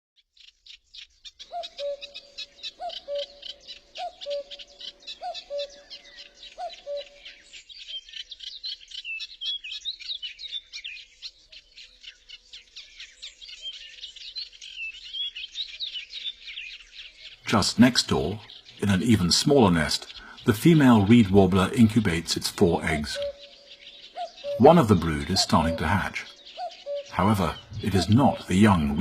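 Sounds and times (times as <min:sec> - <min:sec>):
songbird chattering: 0:00.4 - 0:29.0.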